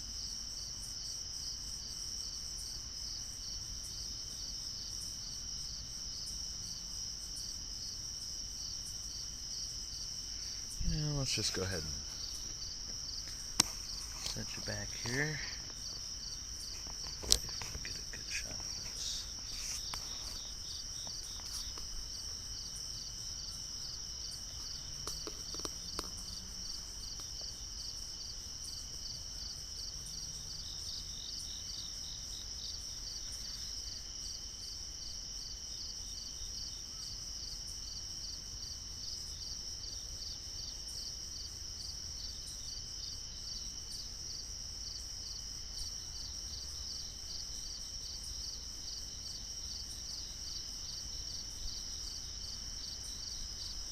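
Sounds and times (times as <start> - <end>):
crickets and insects trilling: 0.0 - 53.9.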